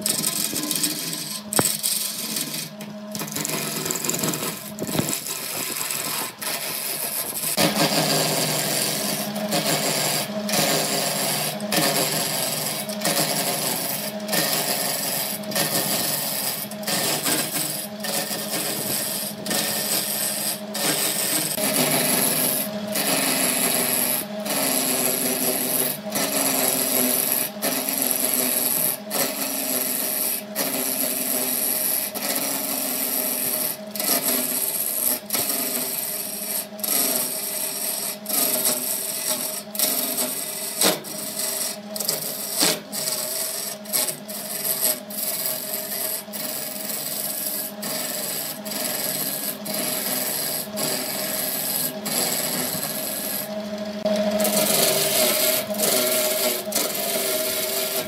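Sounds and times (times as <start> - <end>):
chisel scraping spinning wood: 0.0 - 58.0
lathe motor hum: 0.0 - 58.0.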